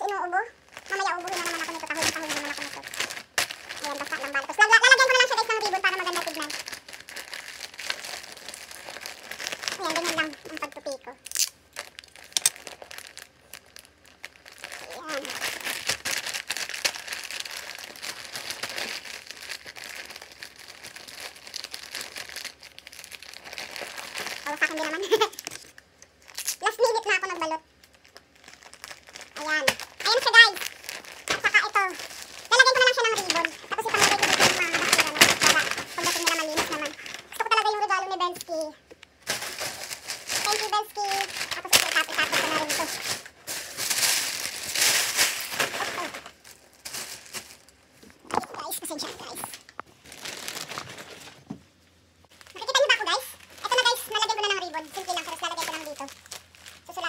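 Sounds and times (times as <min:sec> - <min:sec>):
wrapping paper crinkling: 0:00.0 - 0:51.5, 0:52.3 - 0:57.0.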